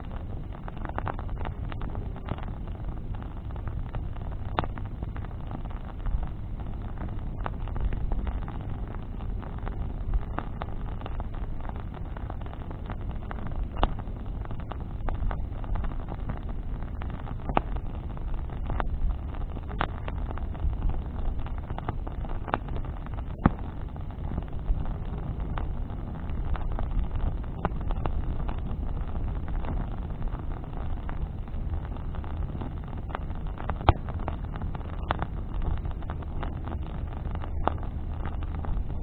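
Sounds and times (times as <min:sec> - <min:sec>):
bonfire crackling and popping: 0:00.0 - 0:39.0
wind rumble on microphone: 0:00.0 - 0:39.0.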